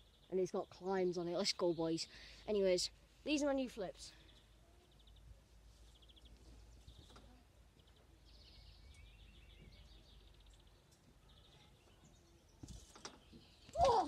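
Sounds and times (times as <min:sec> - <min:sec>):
songbird trills: 0:00.0 - 0:14.0.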